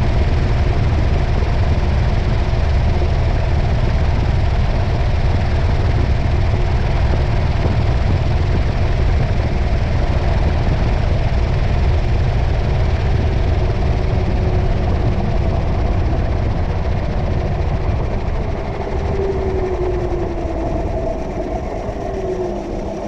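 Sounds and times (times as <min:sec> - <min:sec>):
faint whine falling in pitch: 0:00.0 - 0:23.0.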